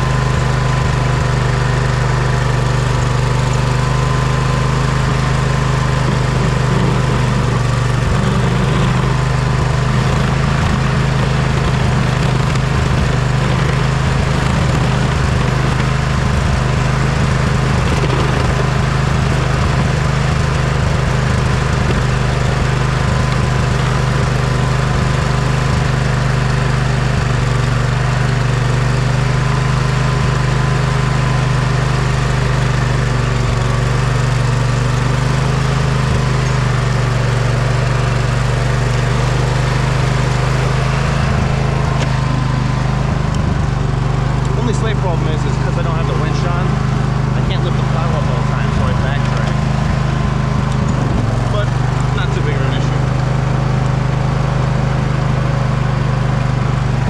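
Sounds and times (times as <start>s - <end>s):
riding lawn mower engine running: 0.0s - 57.0s.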